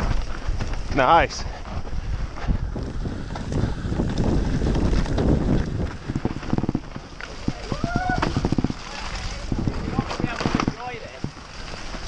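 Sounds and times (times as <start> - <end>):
bike rattling over ground: 0.0 - 12.0
wind buffeting microphone: 0.0 - 12.0.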